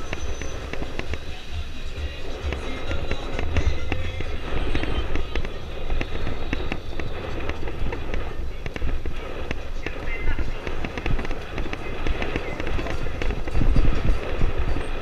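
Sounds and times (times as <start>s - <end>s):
sharp crackles and clicks: 0.0s - 15.0s
wind buffeting microphone: 0.0s - 15.0s.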